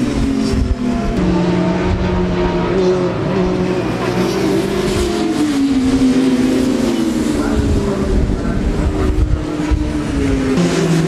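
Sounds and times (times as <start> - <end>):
motorcycle engines running hard: 0.0 - 11.0.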